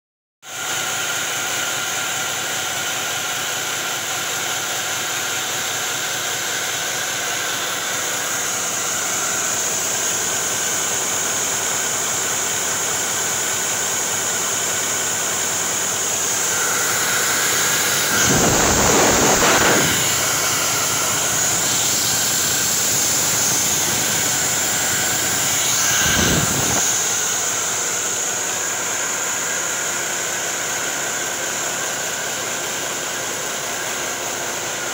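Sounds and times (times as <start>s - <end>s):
diesel engine drone with whine: 0.6s - 34.9s.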